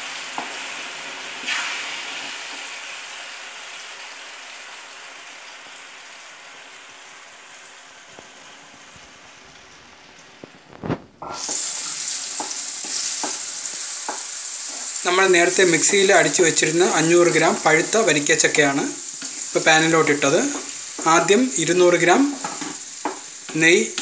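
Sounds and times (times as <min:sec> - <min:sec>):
pulp sizzling in a frying pan: 0:00.0 - 0:24.0.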